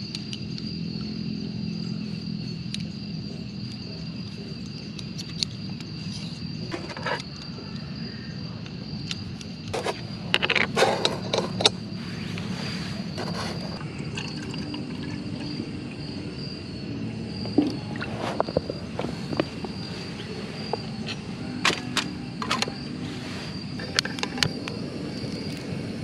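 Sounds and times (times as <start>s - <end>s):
high-pitched insect trill: 0.0s - 26.0s.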